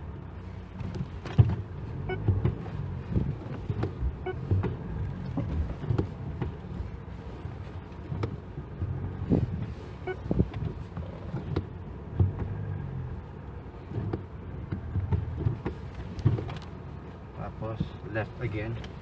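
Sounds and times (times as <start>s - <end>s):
tyre and suspension rumble: 0.0s - 19.0s.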